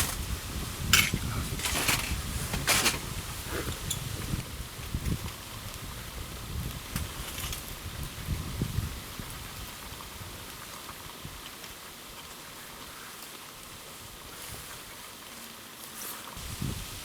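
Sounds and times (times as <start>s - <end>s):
campfire crackling and hissing: 0.0s - 17.0s.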